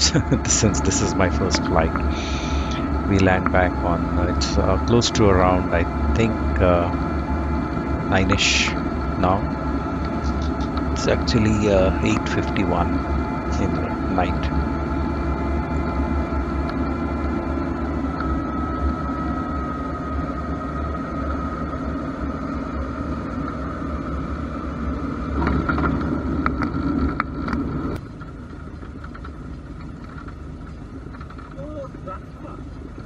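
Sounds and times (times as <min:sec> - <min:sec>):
piston engine running steadily: 0:00.0 - 0:33.0.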